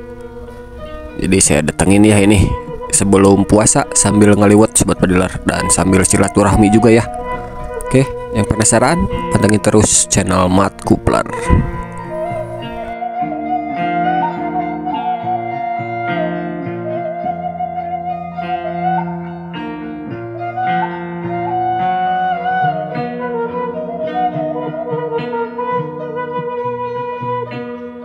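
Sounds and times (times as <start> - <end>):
held wavering melody line: 0.0 - 28.0
plucked string notes: 0.0 - 28.0.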